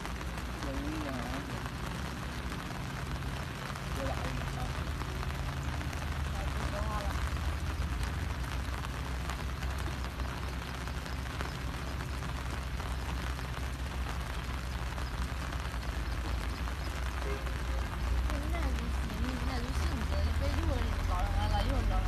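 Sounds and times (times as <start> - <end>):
rain falling: 0.0 - 22.0
steady low rumble: 0.0 - 22.0.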